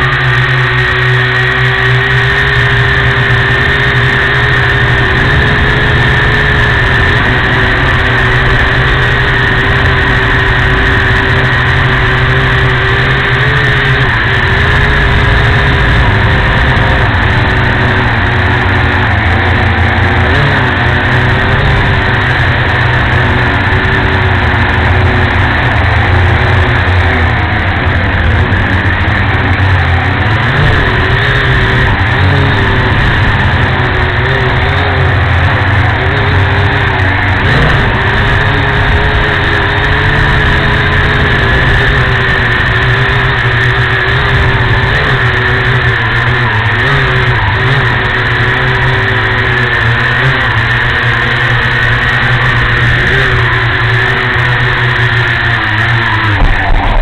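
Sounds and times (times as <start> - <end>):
quadcopter motors buzzing: 0.0 - 57.0
wind rumble: 2.2 - 49.4, 51.9 - 57.0.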